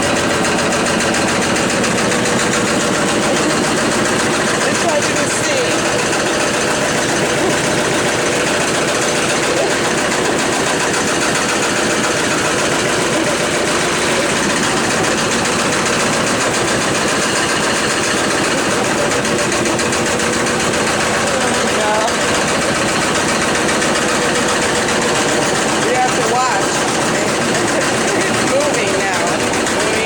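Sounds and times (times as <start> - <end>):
washing machine rattling: 0.0 - 30.0.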